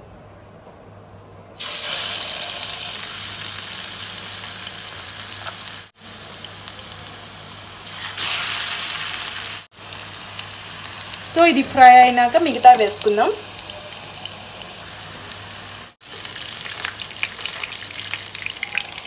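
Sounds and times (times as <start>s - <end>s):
kebab sizzling in hot oil: 1.6s - 19.0s.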